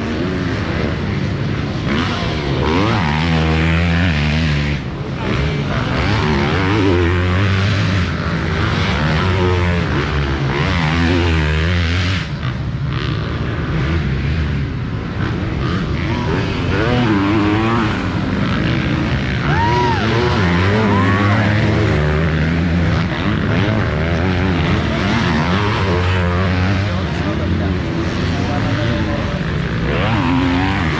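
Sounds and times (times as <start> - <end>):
motocross bike engines revving: 0.0 - 30.9.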